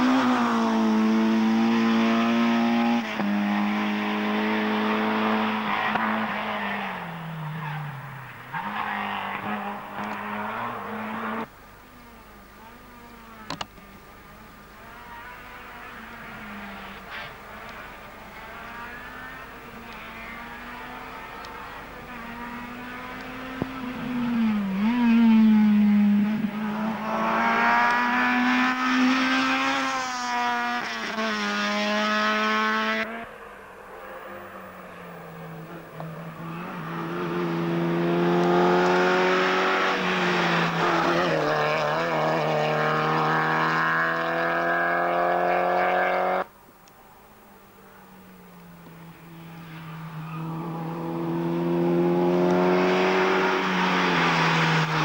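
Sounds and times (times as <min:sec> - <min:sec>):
rally car engine accelerating: 0:00.0 - 0:46.5, 0:48.2 - 0:55.0.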